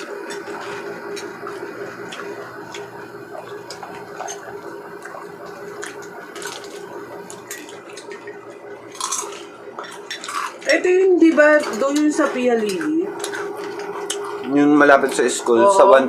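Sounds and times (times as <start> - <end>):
chewing crispy fried food: 0.0 - 10.8, 11.6 - 15.0.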